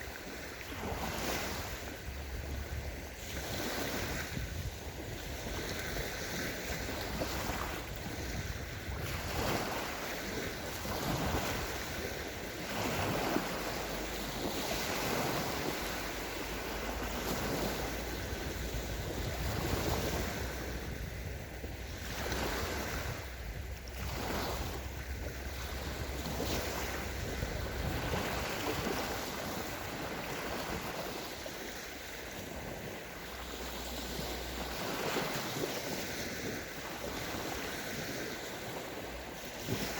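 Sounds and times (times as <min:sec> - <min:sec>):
small waves breaking on shore: 0:00.0 - 0:39.9
wind rumbling on microphone: 0:00.0 - 0:39.9.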